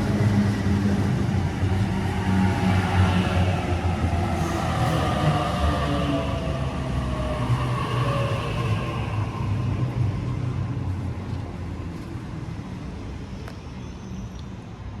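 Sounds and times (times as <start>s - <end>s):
electric train rumbling: 0.0s - 13.3s.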